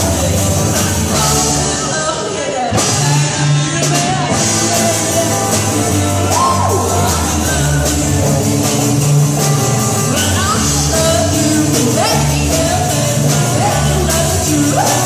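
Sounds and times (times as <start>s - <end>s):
person singing: 0.0s - 15.0s
rock and roll band playing: 0.0s - 15.0s.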